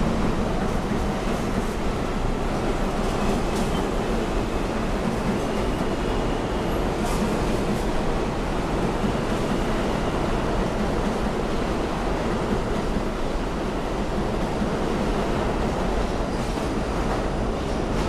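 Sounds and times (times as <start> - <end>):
subway wheels rumbling on rail: 0.0 - 18.0.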